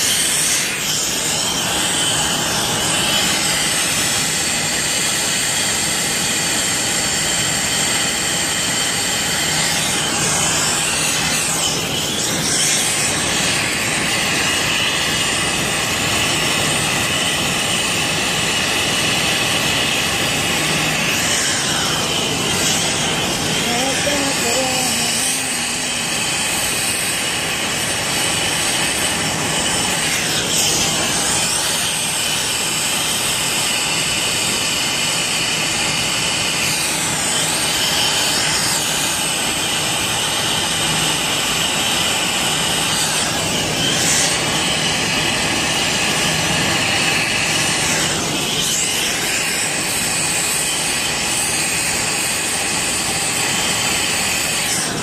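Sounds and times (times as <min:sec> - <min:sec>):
torch hissing: 0:00.0 - 0:55.0.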